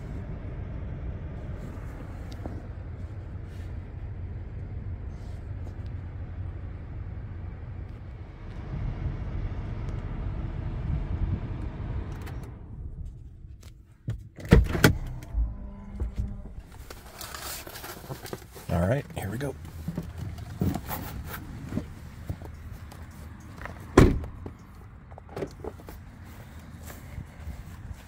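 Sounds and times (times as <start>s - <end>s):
truck engine rumbling: 0.0s - 28.0s.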